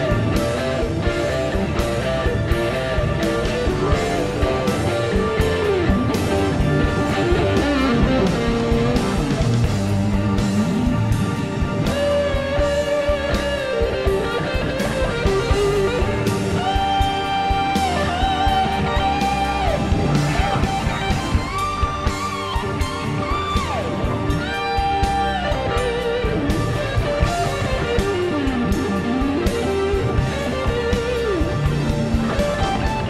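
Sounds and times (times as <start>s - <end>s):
guitar-led rock music: 0.0s - 33.0s.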